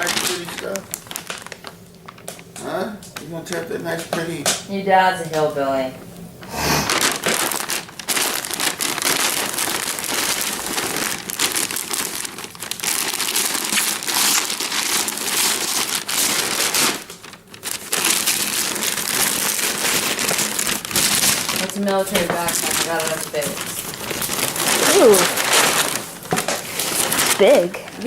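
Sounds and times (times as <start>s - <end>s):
wrapping paper tearing and crinkling: 0.0s - 4.6s, 6.4s - 28.0s.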